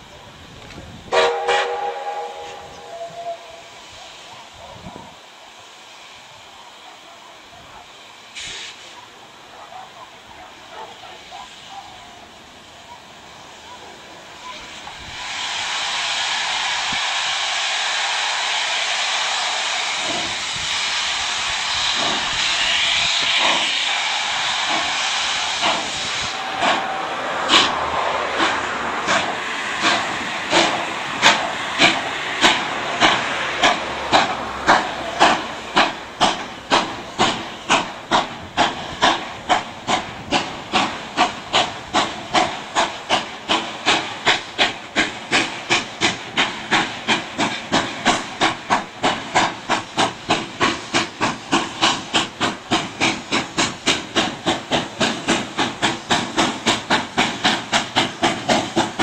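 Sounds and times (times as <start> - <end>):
steam locomotive exhaust chuffs: 0.0 - 7.3, 7.9 - 59.0
steam hissing: 0.0 - 59.0.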